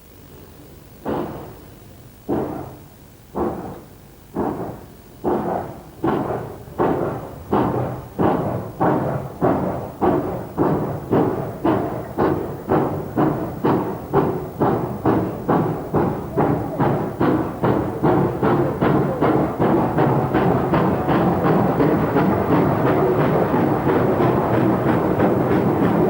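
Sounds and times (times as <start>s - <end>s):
steam locomotive exhaust beats: 0.0s - 26.0s.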